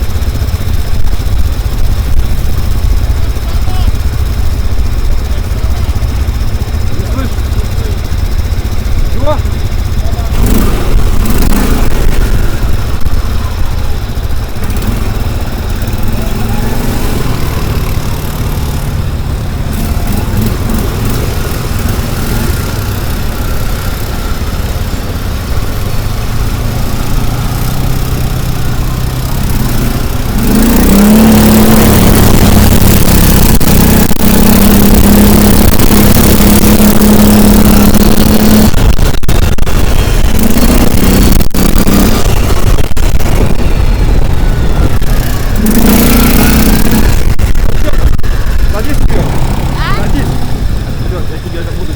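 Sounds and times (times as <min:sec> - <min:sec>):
vehicle engine running: 0:00.0 - 0:51.9
wind and road noise: 0:00.0 - 0:51.9.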